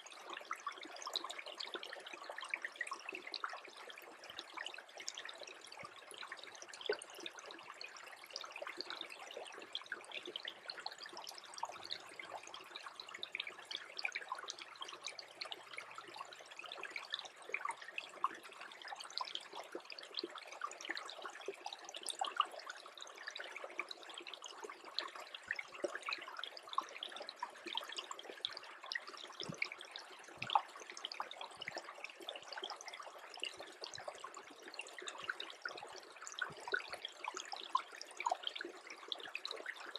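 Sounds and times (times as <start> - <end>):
brook trickling: 0.0 - 39.9.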